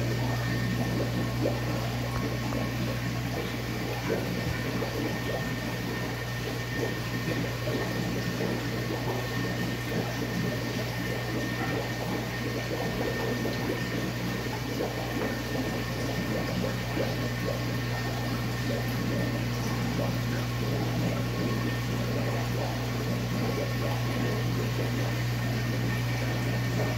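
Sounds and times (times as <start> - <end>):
aquarium pump humming: 0.0 - 26.9
water bubbling and trickling: 0.0 - 26.9.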